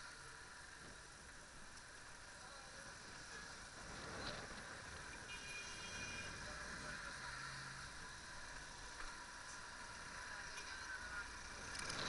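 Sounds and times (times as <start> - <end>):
distant city traffic: 0.0 - 12.0.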